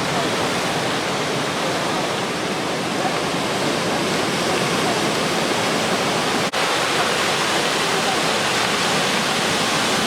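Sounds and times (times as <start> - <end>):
heavy surf breaking: 0.0 - 10.0.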